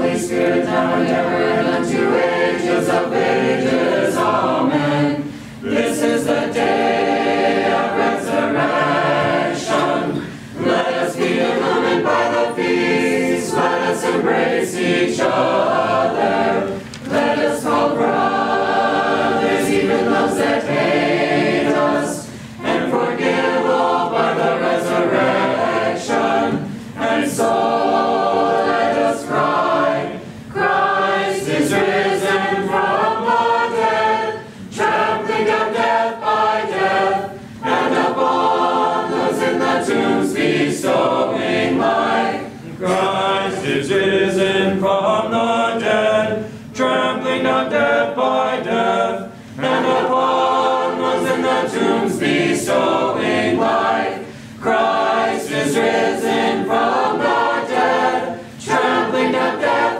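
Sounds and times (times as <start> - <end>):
church choir chanting a cappella: 0.0 - 59.9.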